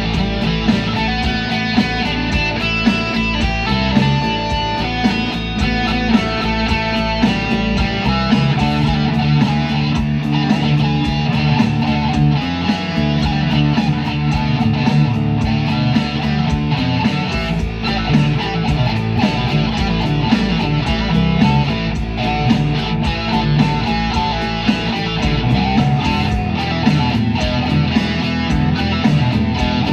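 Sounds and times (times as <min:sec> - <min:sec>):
instrumental guitar music: 0:00.0 - 0:29.9.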